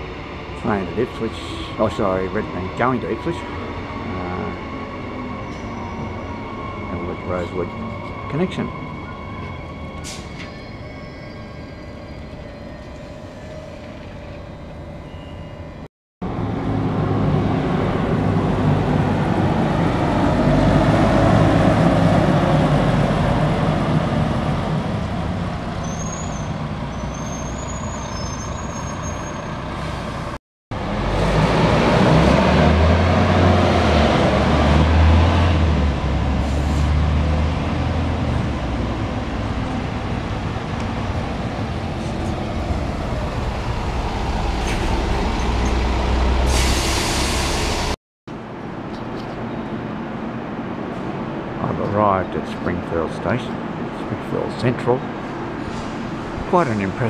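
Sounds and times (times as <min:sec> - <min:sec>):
bus engines running: 0:00.0 - 0:10.8, 0:16.2 - 0:57.0.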